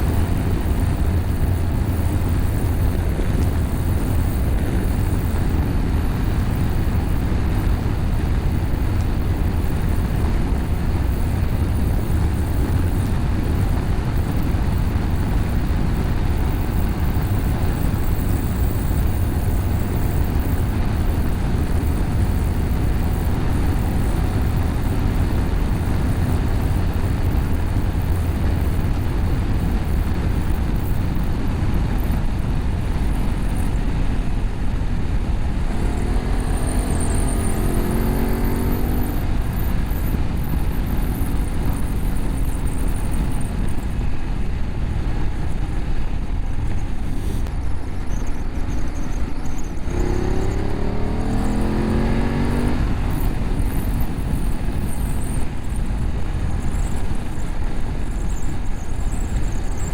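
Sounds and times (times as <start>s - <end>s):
motorcycle engine: 0.0s - 59.6s
wind rush: 0.0s - 59.9s.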